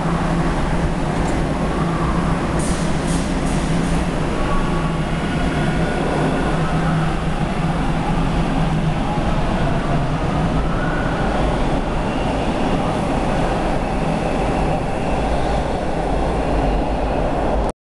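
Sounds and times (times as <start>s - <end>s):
subway train rumbling: 0.0s - 17.7s.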